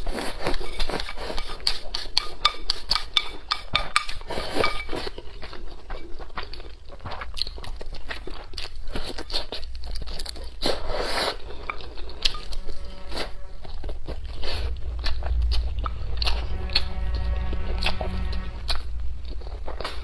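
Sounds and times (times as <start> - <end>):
biting and chewing: 0.0 - 16.4.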